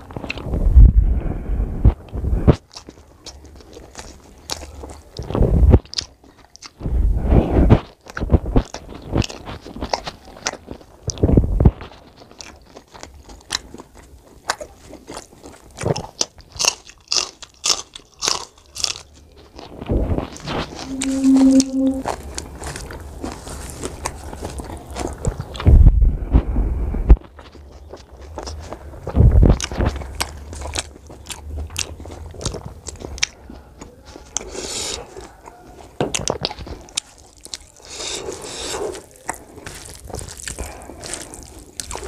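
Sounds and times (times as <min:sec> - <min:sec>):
close chewing: 0:00.0 - 0:00.6, 0:01.8 - 0:21.4, 0:22.1 - 0:25.7, 0:26.3 - 0:42.0.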